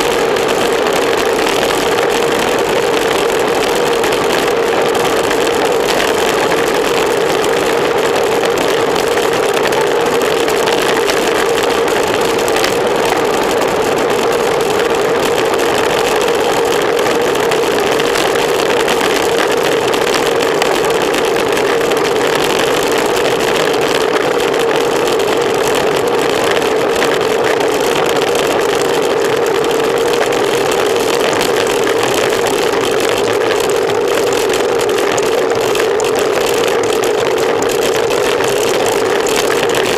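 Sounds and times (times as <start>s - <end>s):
mid-pitched hum: 0.0s - 39.9s.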